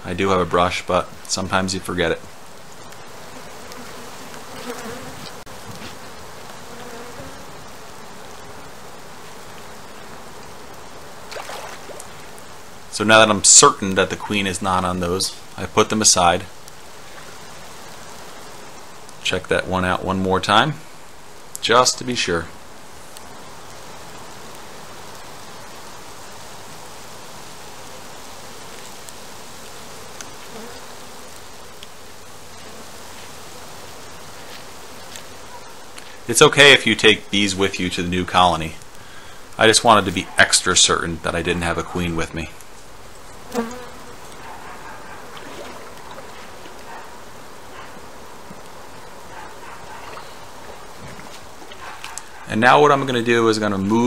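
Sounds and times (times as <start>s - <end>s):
bees buzzing: 0.6s - 19.2s, 22.3s - 53.8s.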